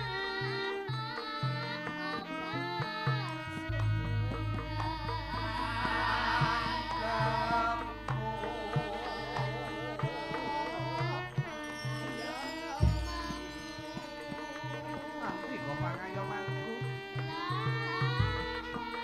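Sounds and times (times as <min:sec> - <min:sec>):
hand drum strokes: 0:00.0 - 0:19.0
person singing ornamented vocal line: 0:00.0 - 0:19.0.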